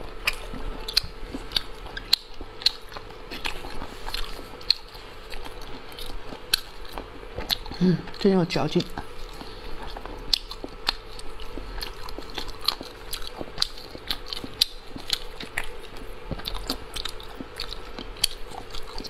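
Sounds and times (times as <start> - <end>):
faint steady hum: 0.0 - 19.0
wet chewing: 0.0 - 19.0.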